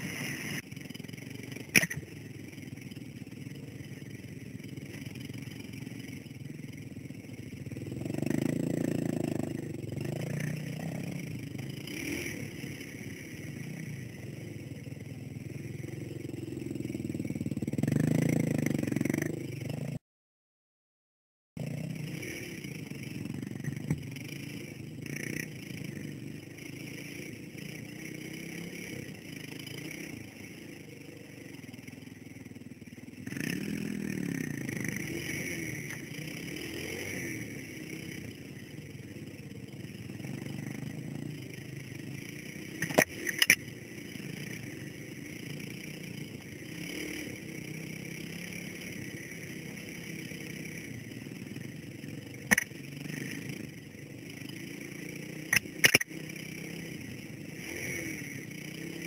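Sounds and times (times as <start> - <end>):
dirt bike engine revving: 0.0 - 20.0, 21.6 - 31.7, 33.1 - 59.0.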